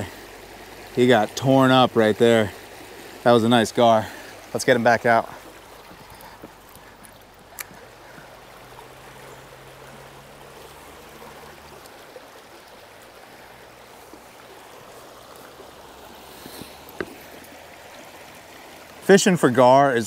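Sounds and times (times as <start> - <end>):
river water running over rocks: 0.0 - 20.0.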